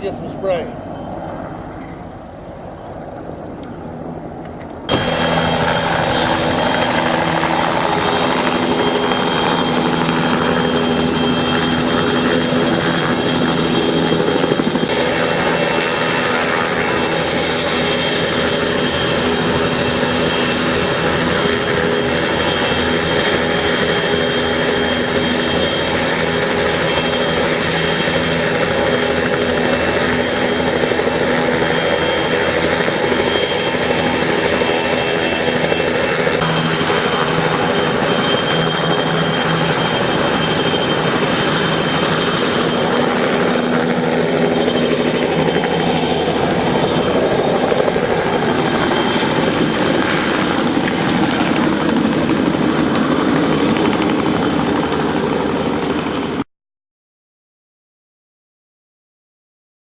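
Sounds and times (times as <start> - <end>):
low-flying aircraft engine drone: 0.0 - 56.5.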